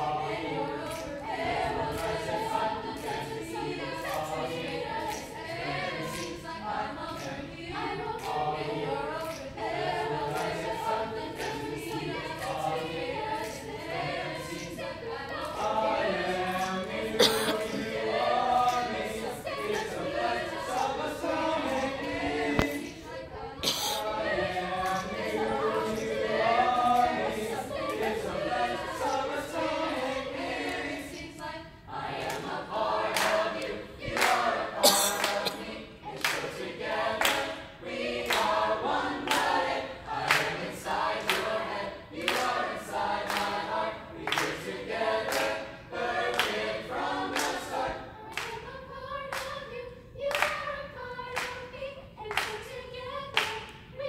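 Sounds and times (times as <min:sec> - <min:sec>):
choir singing a cappella: 0:00.0 - 0:54.0
rhythmic clapping: 0:00.0 - 0:54.0.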